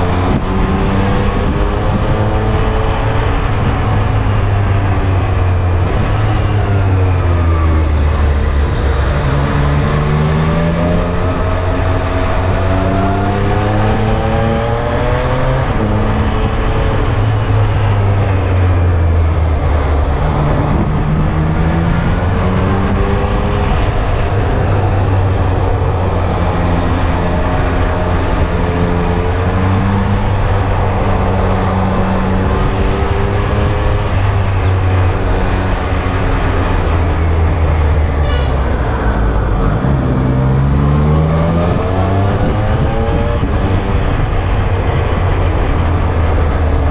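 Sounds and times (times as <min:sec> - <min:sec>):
motorcycle engine revving: 0:00.0 - 0:46.9
road noise: 0:00.0 - 0:46.9
wind noise: 0:00.0 - 0:46.9.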